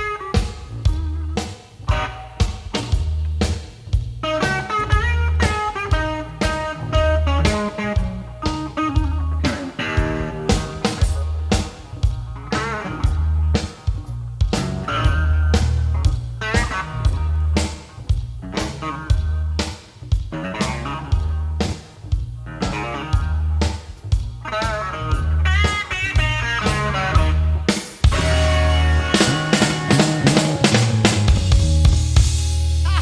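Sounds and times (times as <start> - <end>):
blues-rock band playing: 0.0 - 33.0
electric guitar lead: 4.2 - 33.0.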